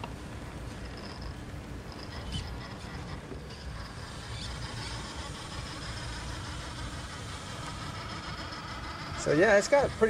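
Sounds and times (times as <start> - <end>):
toy truck motor whirring: 0.8 - 10.0.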